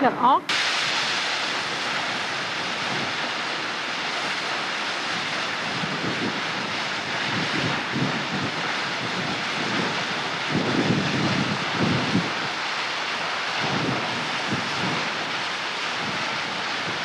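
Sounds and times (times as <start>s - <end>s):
waterfall rushing into a pool: 0.5s - 17.0s
wind rumble on microphone: 0.5s - 17.0s.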